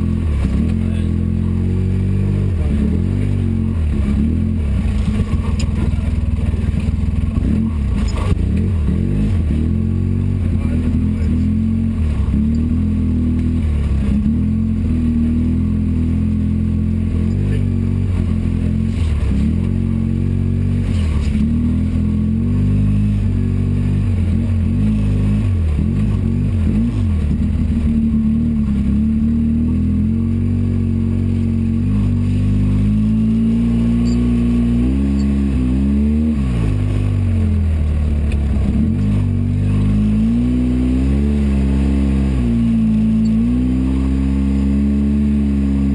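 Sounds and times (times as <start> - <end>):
engine revving: 0.0 - 45.9.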